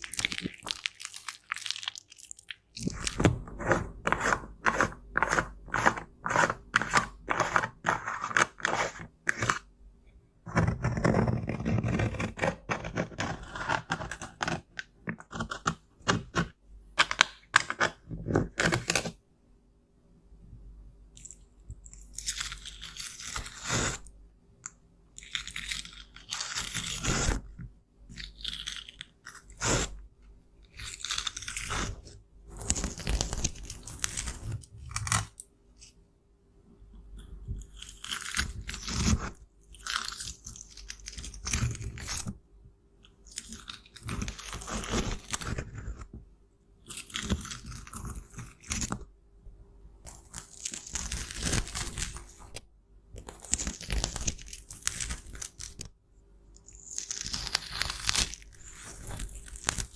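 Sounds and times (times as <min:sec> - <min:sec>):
makeup being crushed and scraped: 0:00.0 - 0:09.7, 0:10.4 - 0:19.2, 0:21.2 - 0:24.1, 0:25.2 - 0:30.0, 0:30.7 - 0:35.9, 0:37.1 - 0:42.4, 0:43.1 - 0:46.2, 0:46.8 - 0:49.1, 0:50.0 - 0:52.6, 0:53.2 - 0:55.9, 0:56.6 - 0:59.9.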